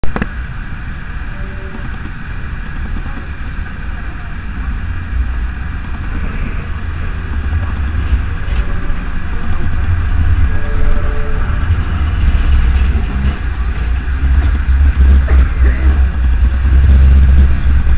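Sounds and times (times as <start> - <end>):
tram wheels rumbling: 0.0 - 17.9.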